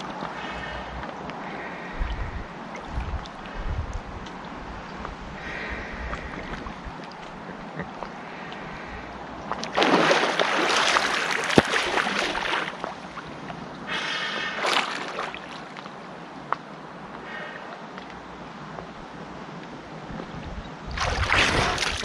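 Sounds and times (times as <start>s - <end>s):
water splashing and sloshing: 0.0s - 17.0s, 20.2s - 22.0s.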